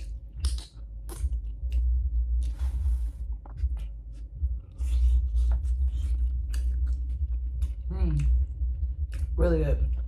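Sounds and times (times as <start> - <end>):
chewing: 0.0 - 9.3
low rumble: 0.0 - 10.0.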